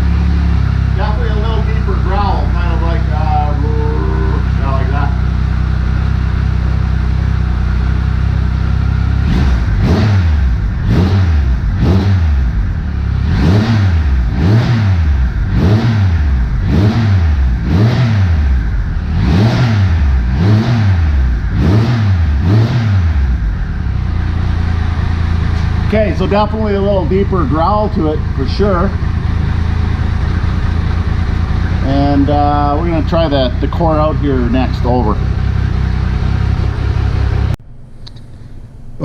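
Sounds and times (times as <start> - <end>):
motorcycle engine idling and revving: 0.0 - 37.8.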